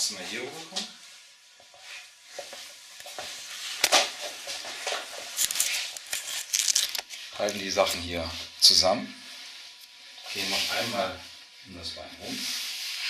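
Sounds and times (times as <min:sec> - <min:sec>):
rope sliding with rustling hiss: 0:00.0 - 0:13.0.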